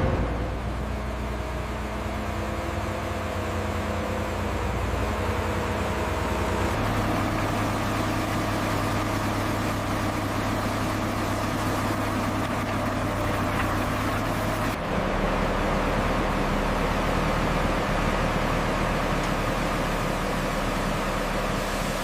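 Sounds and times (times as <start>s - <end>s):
heavy machinery droning: 0.0s - 22.0s.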